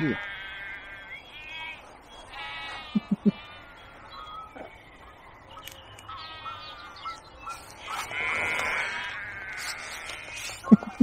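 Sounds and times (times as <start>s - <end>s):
drawn-out wavering animal calls: 0.0s - 11.0s.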